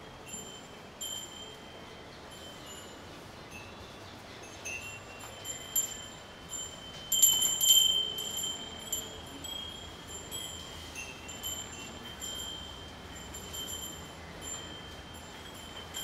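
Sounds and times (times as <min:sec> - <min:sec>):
small metal bells jingling: 0:00.2 - 0:16.0.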